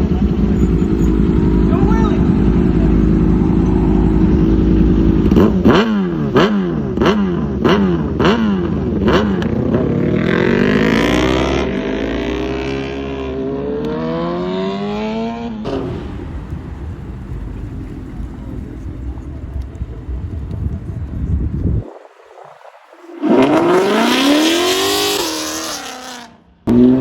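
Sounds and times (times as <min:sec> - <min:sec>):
car accelerating away: 0:00.0 - 0:27.0
car engine idling and revving: 0:00.0 - 0:27.0.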